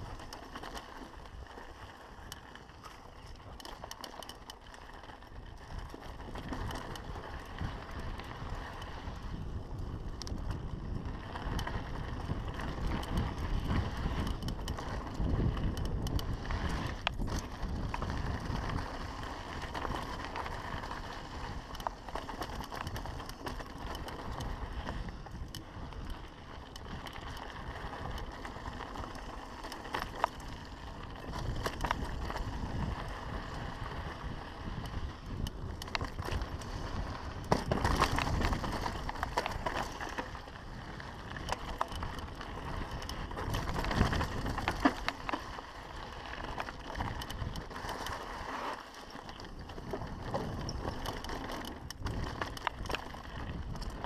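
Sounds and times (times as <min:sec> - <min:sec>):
bike rattling over bumps: 0:00.0 - 0:54.0
bike tyres on loose dirt: 0:00.0 - 0:54.0.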